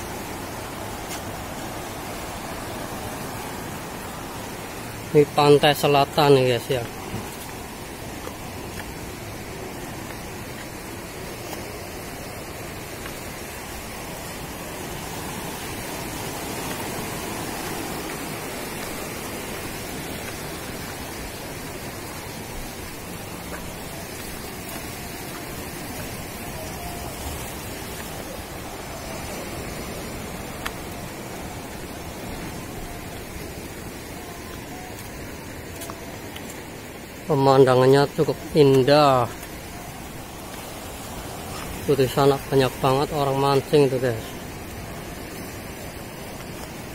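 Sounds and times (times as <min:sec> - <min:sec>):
sea waves: 0:00.0 - 0:46.9
wind: 0:00.0 - 0:46.9.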